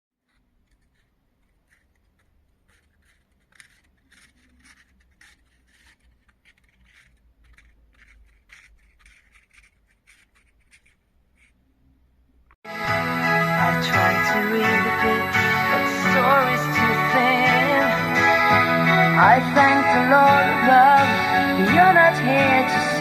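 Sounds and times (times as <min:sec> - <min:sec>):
scraping and scratching strokes: 0:00.2 - 0:11.9, 0:12.9 - 0:23.0.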